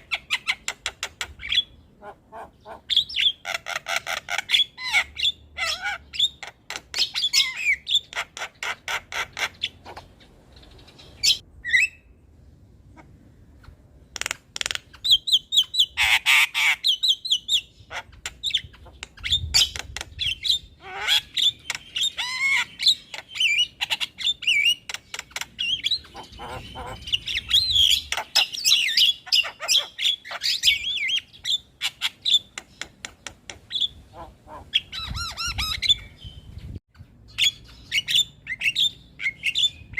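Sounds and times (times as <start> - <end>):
myna singing clicks and squawks: 0.0 - 11.4, 13.0 - 39.9.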